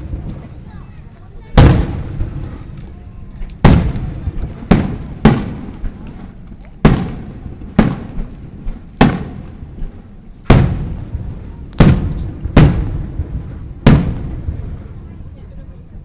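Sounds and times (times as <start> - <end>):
faint fireworks pops: 0.0 - 15.5
fireworks booming with echo: 0.0 - 15.5.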